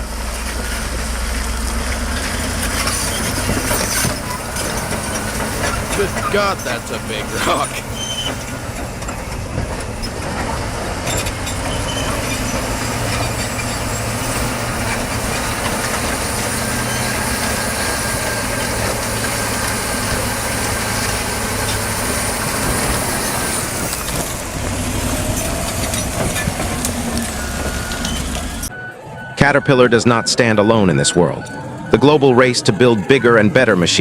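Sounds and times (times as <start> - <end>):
bulldozer diesel engine under load: 0.0 - 34.0
mechanical rumble and grinding: 0.0 - 34.0.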